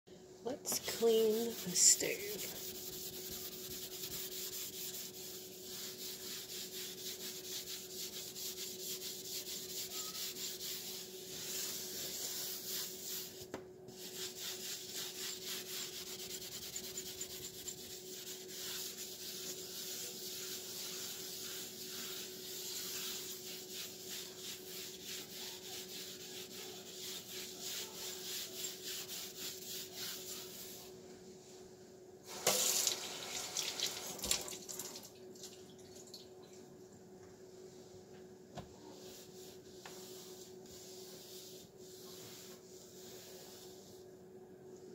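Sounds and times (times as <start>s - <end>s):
steady faint hum: 0.1s - 32.4s, 34.6s - 44.9s
rubbing strokes on cooktop: 0.6s - 33.0s, 38.8s - 44.1s.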